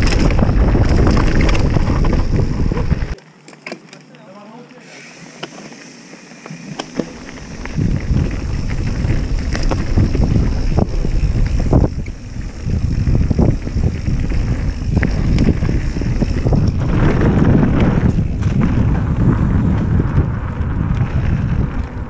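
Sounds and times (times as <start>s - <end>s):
bike rattling over bumps: 0.0s - 3.2s, 5.0s - 22.0s
wind buffeting microphone: 0.0s - 3.2s, 7.1s - 22.0s.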